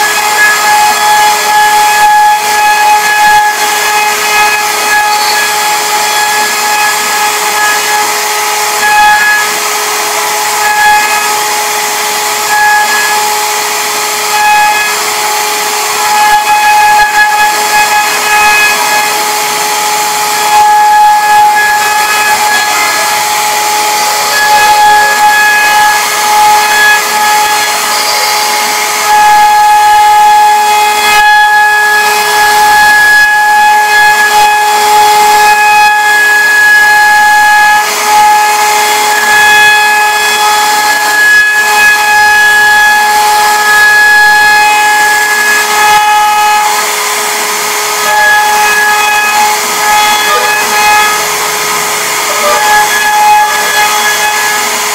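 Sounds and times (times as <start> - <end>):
router spindle whining: 0.0 - 54.9.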